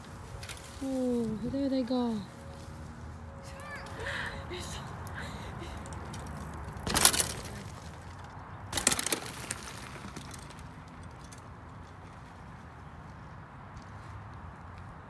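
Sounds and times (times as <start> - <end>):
bike tyres crunching over dry leaves: 0.0 - 5.3, 6.0 - 14.1.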